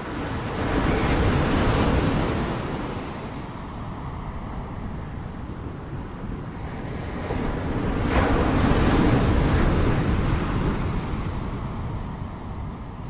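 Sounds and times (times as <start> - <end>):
ocean waves washing ashore: 0.0 - 13.0.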